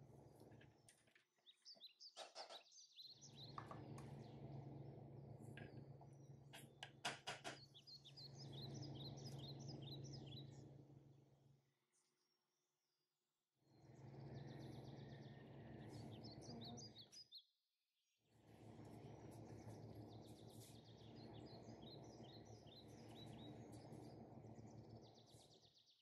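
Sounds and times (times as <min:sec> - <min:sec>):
low background hum: 0:00.0 - 0:11.5, 0:13.8 - 0:17.2, 0:18.4 - 0:25.8
faint birds chirping: 0:00.0 - 0:12.6, 0:13.7 - 0:17.5, 0:18.4 - 0:26.0.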